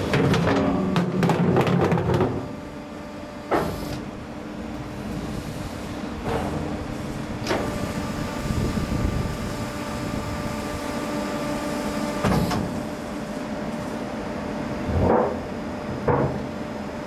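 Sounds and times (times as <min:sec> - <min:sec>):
hydraulic power pack humming: 0:00.0 - 0:14.0.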